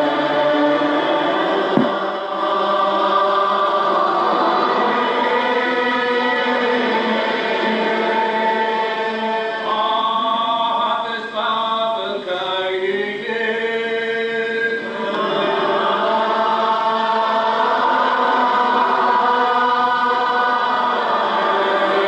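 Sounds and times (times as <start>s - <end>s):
congregation singing unaccompanied: 0.0s - 22.0s.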